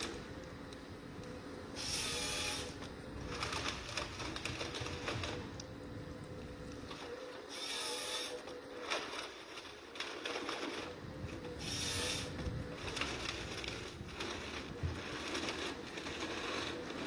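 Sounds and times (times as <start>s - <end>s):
forestry machine whine: 0.0s - 17.0s.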